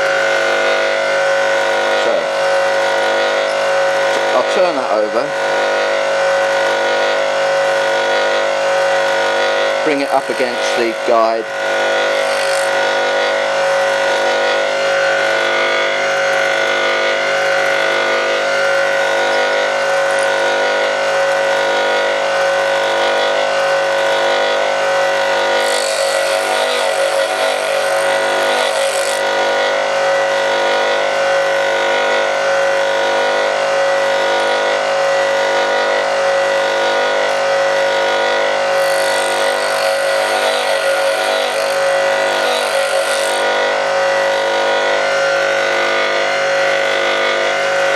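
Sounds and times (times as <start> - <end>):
bench grinder humming: 0.0 - 47.9
drill bit grinding hiss: 0.0 - 47.9.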